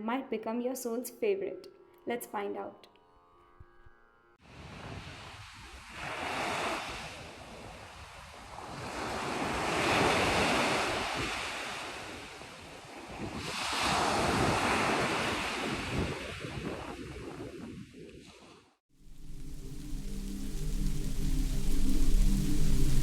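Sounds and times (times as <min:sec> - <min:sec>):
ocean waves on shore: 0:04.4 - 0:23.0.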